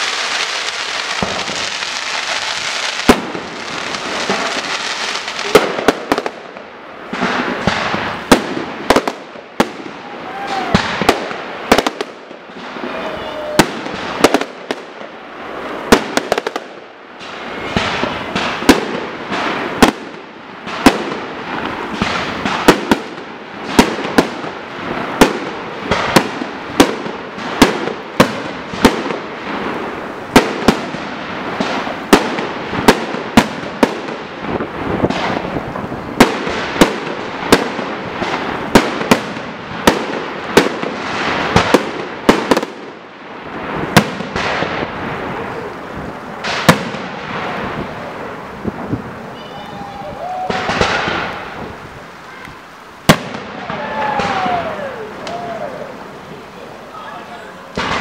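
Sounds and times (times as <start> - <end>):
firework crackle: 0.0 - 58.0.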